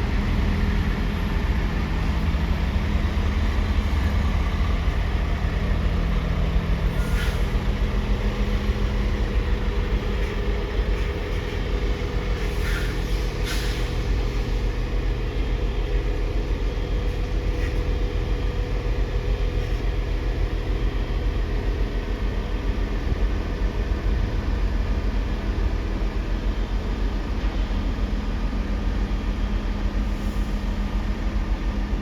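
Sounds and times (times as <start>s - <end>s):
diesel engines rumbling: 0.0s - 32.0s.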